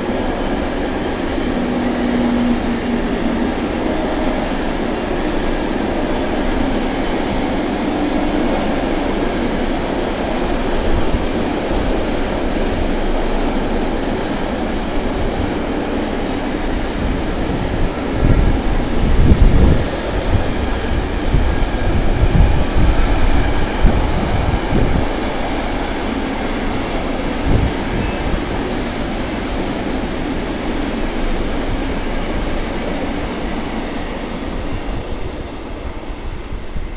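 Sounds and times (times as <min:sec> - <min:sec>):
train wheels knocking: 0:00.0 - 0:35.7
freight train rolling on rails: 0:00.0 - 0:36.9.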